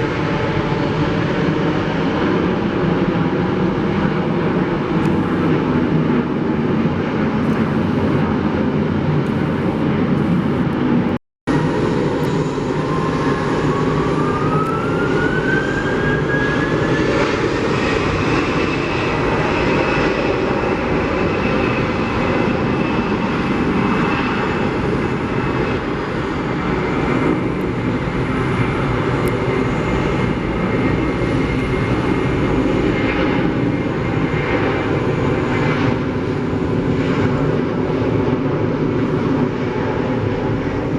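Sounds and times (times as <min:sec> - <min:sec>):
jet engine whine: 0:00.0 - 0:40.9
jet engines rumbling: 0:00.0 - 0:40.9.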